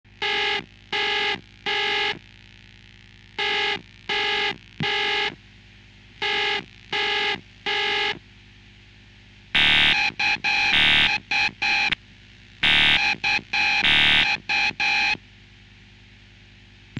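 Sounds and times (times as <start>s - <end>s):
faint steady hum: 0.1s - 16.9s.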